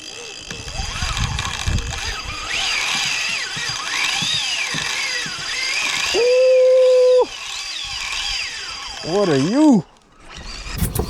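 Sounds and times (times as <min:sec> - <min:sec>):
fishing reel drag whining: 0:00.0 - 0:10.8.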